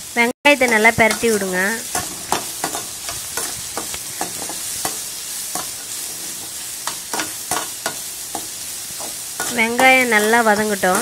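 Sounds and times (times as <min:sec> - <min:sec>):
vegetables sizzling in oil: 0:00.0 - 0:11.0
metal spatula scraping a pan: 0:00.6 - 0:11.0.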